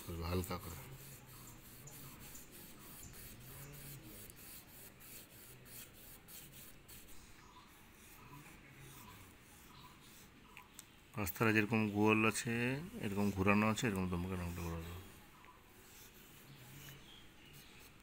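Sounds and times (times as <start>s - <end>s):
crayon rubbing on paper: 0.0s - 10.4s, 11.3s - 18.0s.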